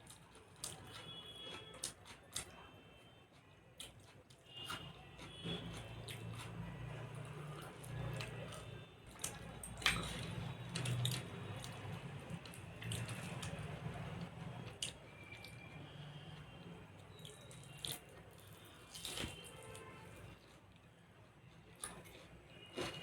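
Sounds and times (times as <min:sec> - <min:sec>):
wet chewing: 0:00.0 - 0:02.6, 0:03.4 - 0:15.8, 0:17.1 - 0:20.6.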